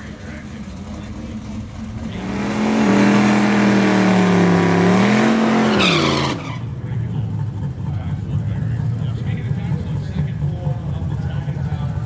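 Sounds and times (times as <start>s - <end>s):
drag car engine revving: 0.0s - 12.0s.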